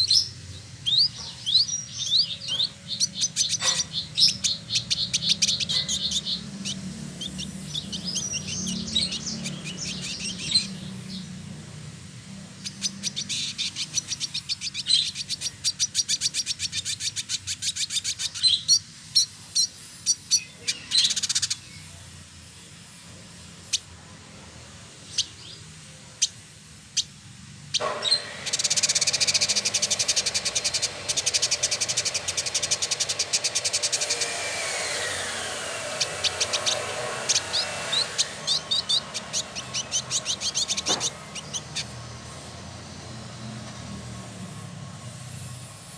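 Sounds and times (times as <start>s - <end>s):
bird chattering trills: 0.0s - 22.1s, 25.0s - 45.9s.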